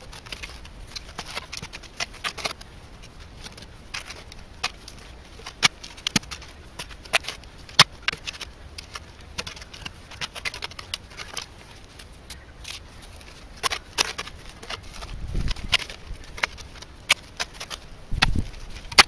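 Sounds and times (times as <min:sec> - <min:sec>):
soil clods dropping: 0:00.0 - 0:19.0.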